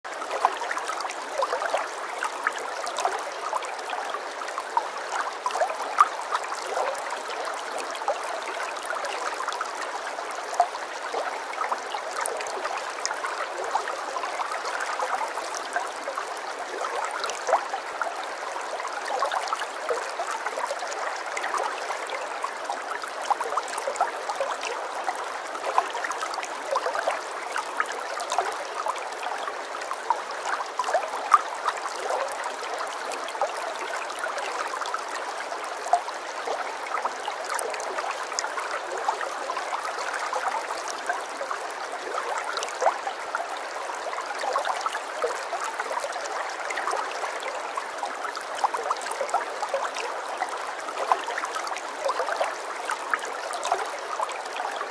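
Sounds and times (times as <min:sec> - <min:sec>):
running water in a stream: 0:00.0 - 0:54.9.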